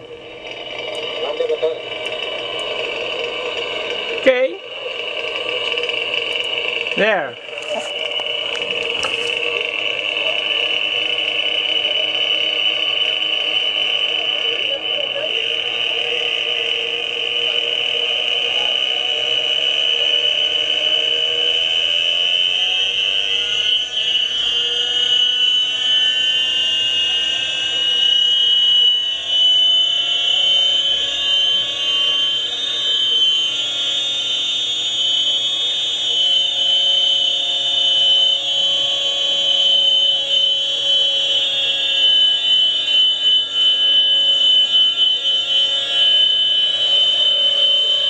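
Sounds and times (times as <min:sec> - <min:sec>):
model helicopter engine whine: 0:00.0 - 0:48.0.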